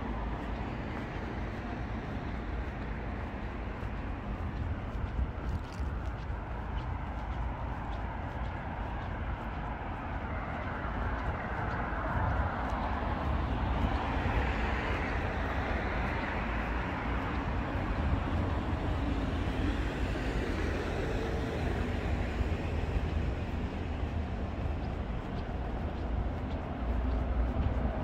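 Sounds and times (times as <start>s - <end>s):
city traffic rumble: 0.0s - 28.0s.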